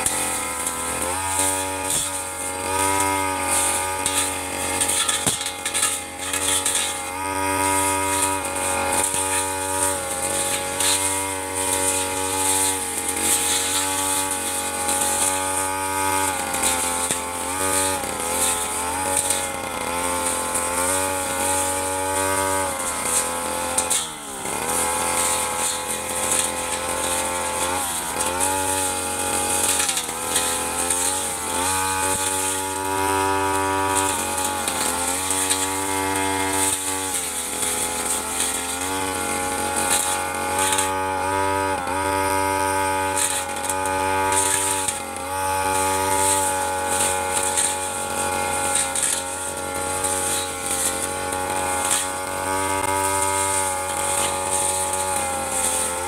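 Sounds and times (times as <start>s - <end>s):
brush cutter cutting grass: 0.0s - 56.0s.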